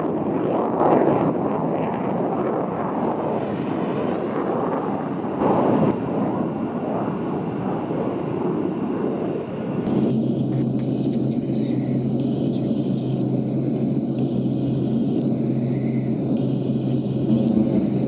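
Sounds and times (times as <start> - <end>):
jet engine roaring: 0.0 - 18.0.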